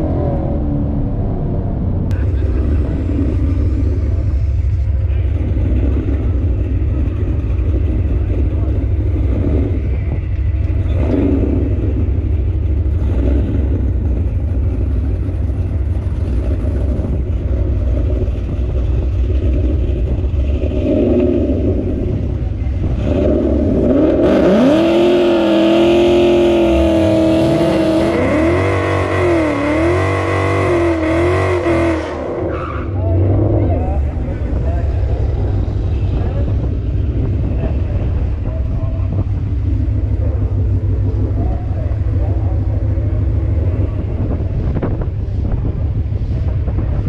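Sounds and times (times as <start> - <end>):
car engine rumbling and revving: 0.0 - 47.0.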